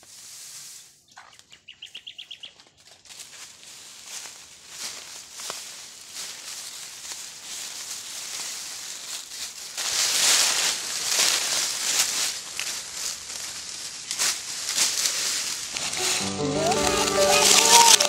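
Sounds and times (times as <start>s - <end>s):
footsteps through dry leaves: 0.0s - 1.7s, 2.4s - 18.0s.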